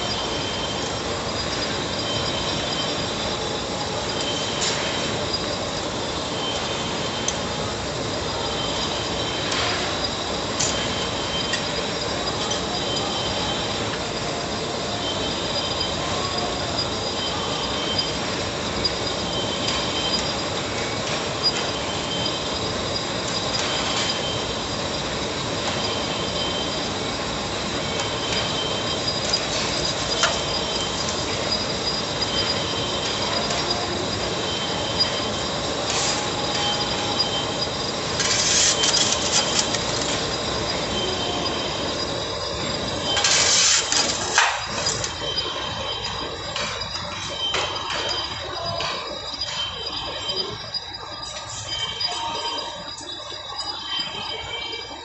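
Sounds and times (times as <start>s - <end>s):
lathe machining noise: 0.0s - 54.2s
high metallic whine: 0.0s - 55.0s.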